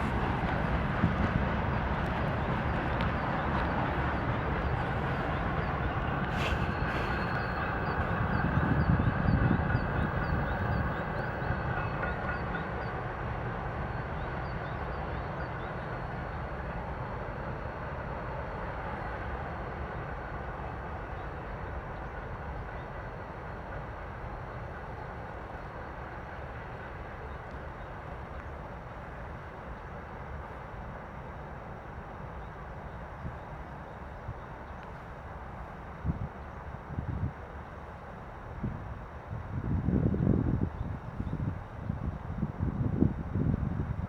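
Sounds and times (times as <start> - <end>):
freight train rumbling on rails: 0.0 - 44.0.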